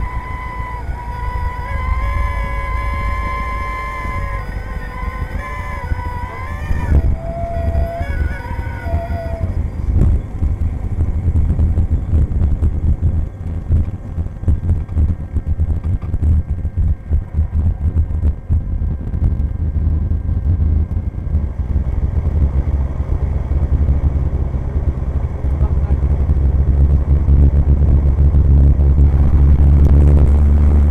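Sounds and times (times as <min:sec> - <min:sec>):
airplane piston engine rumbling: 0:00.0 - 0:30.9.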